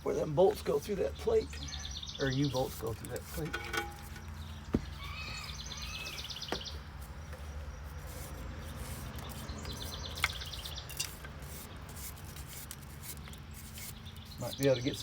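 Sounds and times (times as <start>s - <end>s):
songbird trilling: 0.0s - 11.9s, 13.2s - 15.0s.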